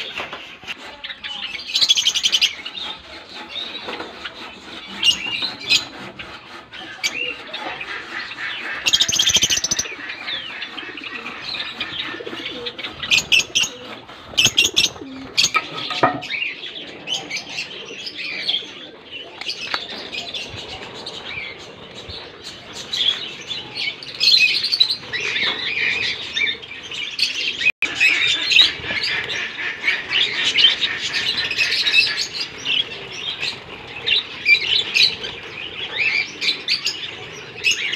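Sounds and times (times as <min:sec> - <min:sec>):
budgerigars chattering and chirping: 0:00.0 - 0:37.9.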